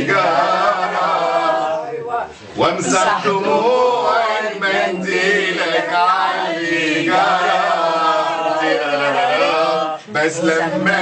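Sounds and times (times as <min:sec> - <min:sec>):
people singing in unison: 0:00.0 - 0:11.0.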